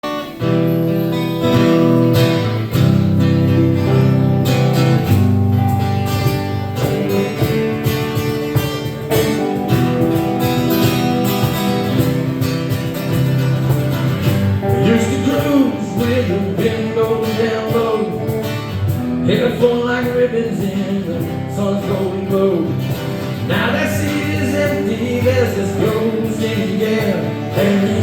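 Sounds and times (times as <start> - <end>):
strummed guitar: 0.0 - 28.0
steady bass: 0.4 - 28.0.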